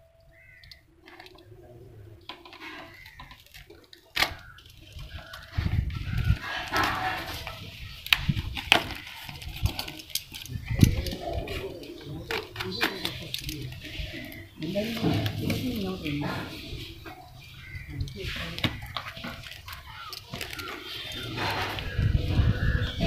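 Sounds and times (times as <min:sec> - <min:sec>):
cardboard and tape rustling: 0:02.2 - 0:23.0.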